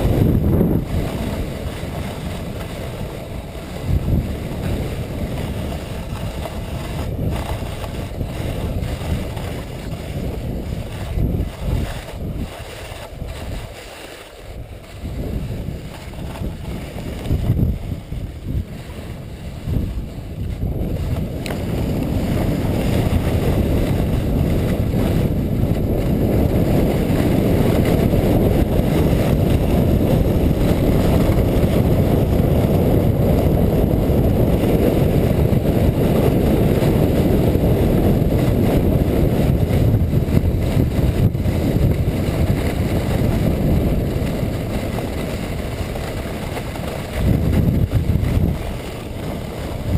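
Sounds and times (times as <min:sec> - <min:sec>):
sled runners scraping snow: 0:00.0 - 0:49.9
wind on microphone: 0:00.0 - 0:49.9.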